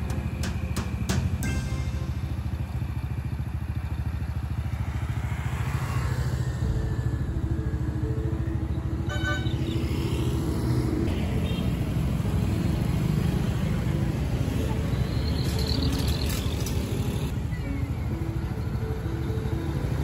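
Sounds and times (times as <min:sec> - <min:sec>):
small motorcycle engines running: 0:00.0 - 0:08.8, 0:09.4 - 0:20.0
road traffic passing: 0:00.0 - 0:20.0.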